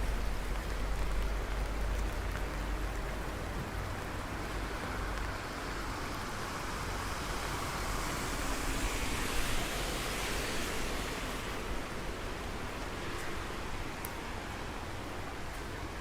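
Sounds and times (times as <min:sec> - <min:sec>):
falling rain: 0:00.0 - 0:16.0.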